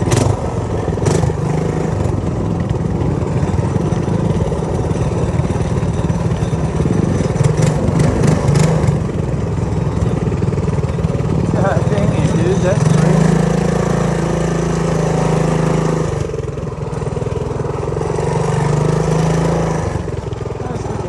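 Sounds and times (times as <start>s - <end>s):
bike clattering over ruts: 0.0s - 21.0s
minibike engine running: 0.0s - 21.0s.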